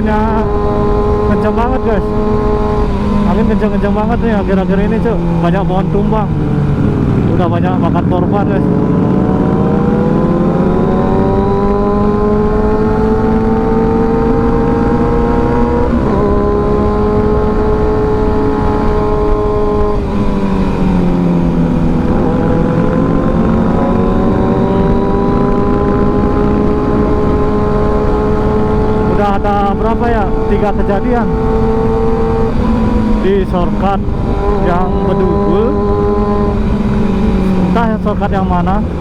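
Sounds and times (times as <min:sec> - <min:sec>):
motorcycle engine running: 0:00.0 - 0:39.0
wind rumble: 0:00.0 - 0:39.0.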